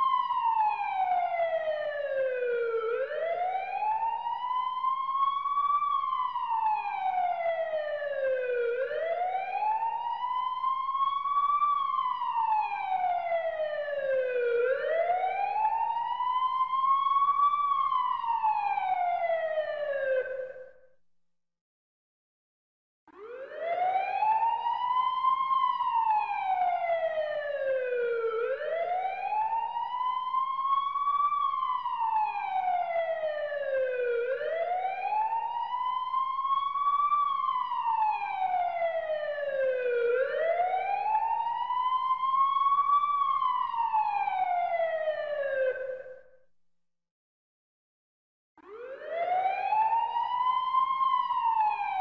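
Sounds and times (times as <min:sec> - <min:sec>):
emergency siren wailing: 0:00.0 - 0:20.8, 0:23.1 - 0:46.4, 0:48.6 - 0:52.0.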